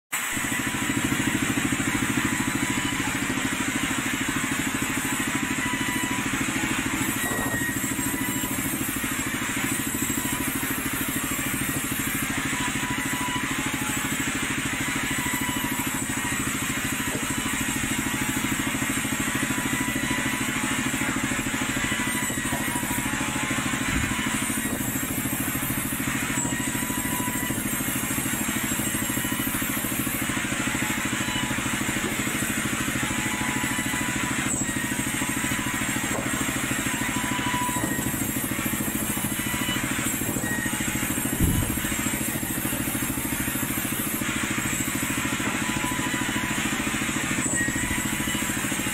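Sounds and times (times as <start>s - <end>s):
band saw machinery droning: 0.1s - 48.9s.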